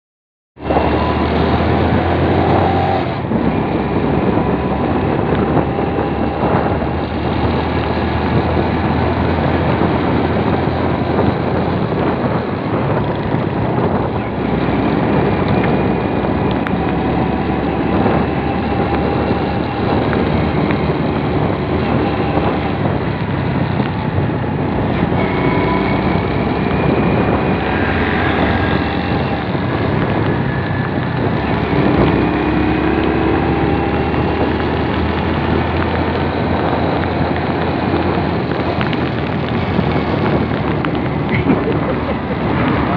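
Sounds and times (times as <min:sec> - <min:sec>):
vehicle engine and road noise: 0:00.6 - 0:42.9.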